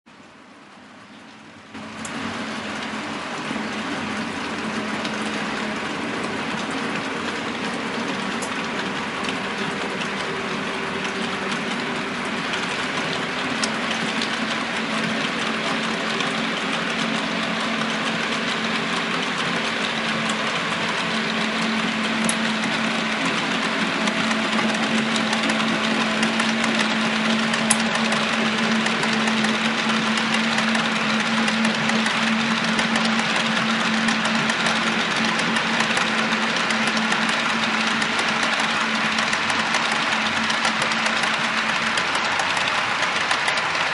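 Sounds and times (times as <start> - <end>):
model train rolling rumble: 0.2 - 43.9.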